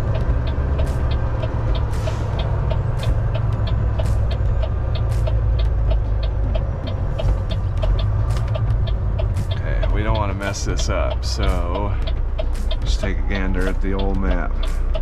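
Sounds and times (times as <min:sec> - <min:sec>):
truck engine and road rumble: 0:00.0 - 0:15.0
turn signal ticking: 0:00.0 - 0:15.0
windshield wipers swishing: 0:00.0 - 0:15.0.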